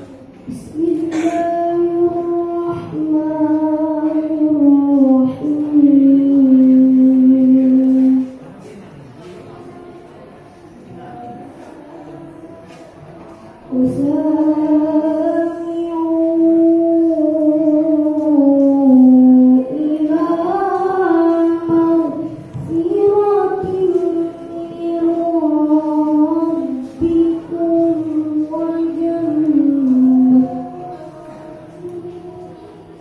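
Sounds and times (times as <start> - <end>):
boy reciting melodically: 0.0 - 33.0.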